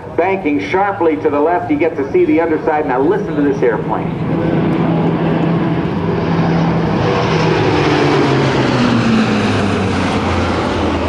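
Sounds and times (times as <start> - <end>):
turboprop aircraft passing: 0.0 - 11.0.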